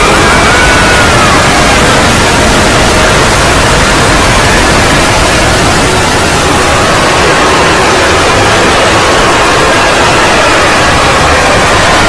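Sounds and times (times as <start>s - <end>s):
loud distorted static noise: 0.0s - 12.0s.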